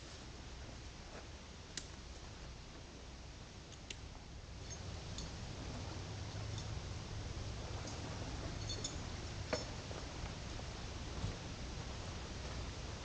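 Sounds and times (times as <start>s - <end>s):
low hum: 0.0s - 13.0s
steady background hiss: 0.0s - 13.0s.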